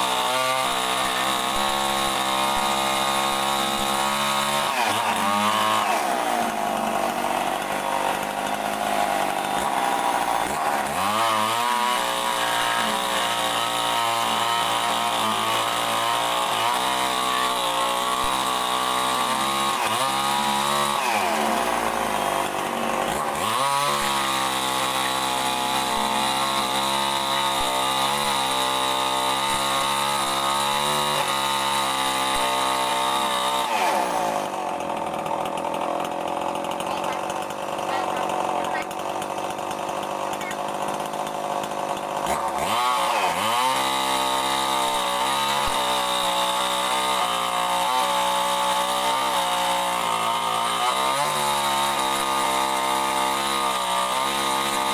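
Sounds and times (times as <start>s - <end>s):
chainsaw cutting through wood: 0.0s - 54.9s.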